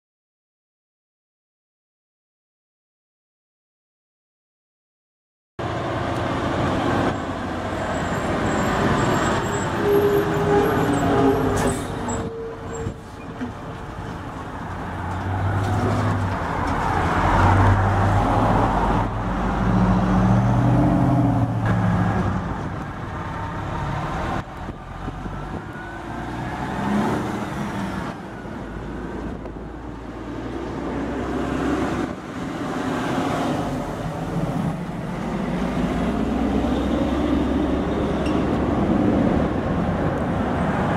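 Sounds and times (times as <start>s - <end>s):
road and tyre noise: 5.6s - 40.9s
trucks driving past: 5.6s - 40.9s.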